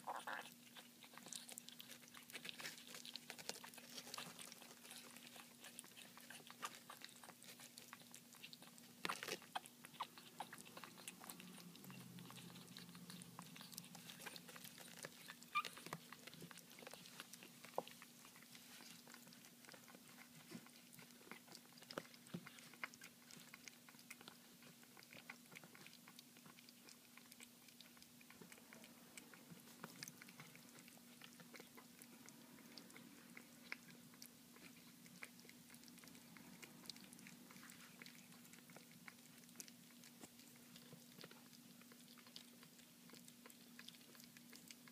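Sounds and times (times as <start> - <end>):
low steady hum: 0.0 - 44.9
puppies chewing clicks: 0.0 - 44.9.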